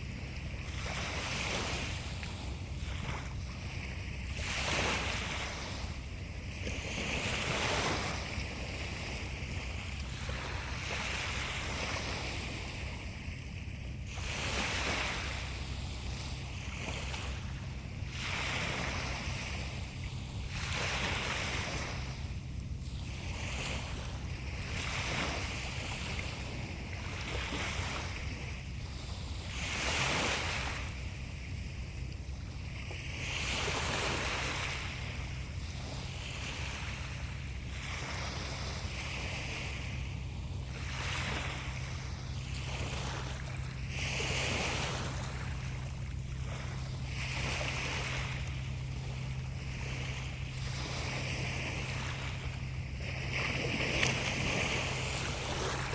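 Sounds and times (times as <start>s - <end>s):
sea waves washing in: 0.0s - 55.9s.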